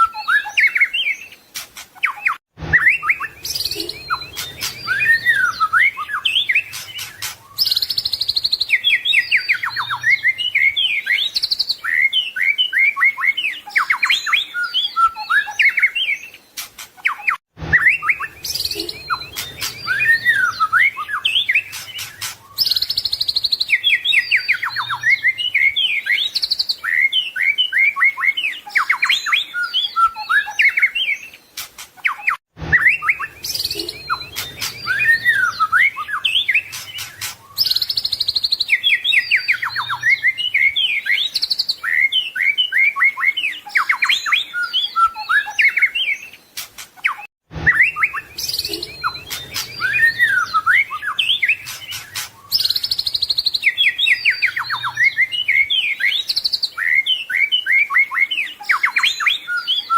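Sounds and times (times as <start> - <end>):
songbird singing whistles and trills: 0.0 - 59.9.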